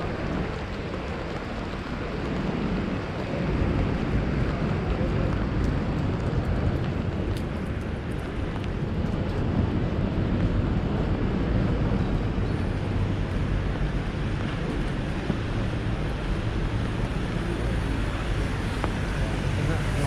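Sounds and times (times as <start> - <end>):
traffic on wet road: 0.0 - 20.0.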